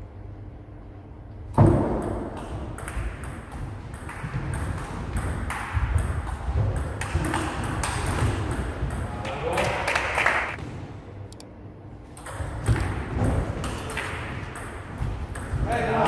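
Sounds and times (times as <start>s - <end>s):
table tennis ball hits: 1.5s - 10.6s, 12.2s - 16.0s.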